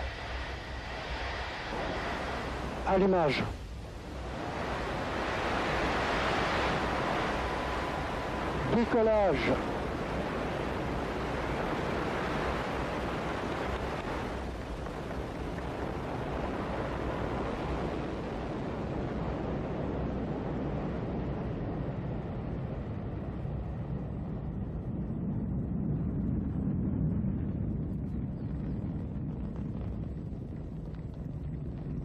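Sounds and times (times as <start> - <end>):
rocket engine roaring: 0.0 - 32.0.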